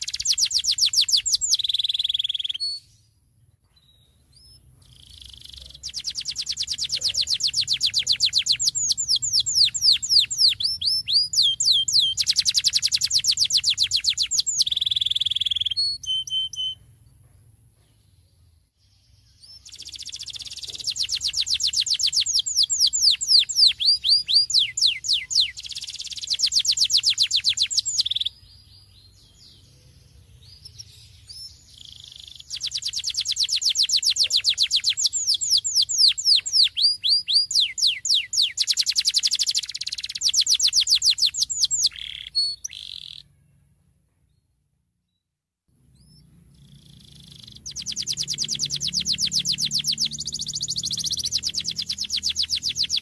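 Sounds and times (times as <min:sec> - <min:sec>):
canary singing with trills: 0:00.0 - 0:03.0, 0:03.7 - 0:17.3, 0:18.5 - 0:43.5, 0:45.8 - 0:53.0.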